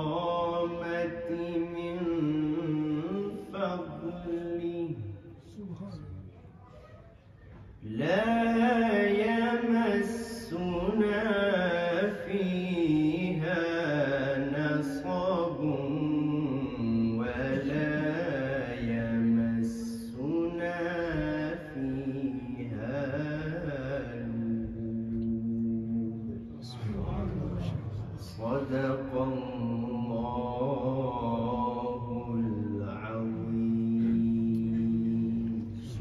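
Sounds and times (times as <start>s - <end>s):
man chanting melodically: 0.0s - 6.2s, 7.8s - 36.0s.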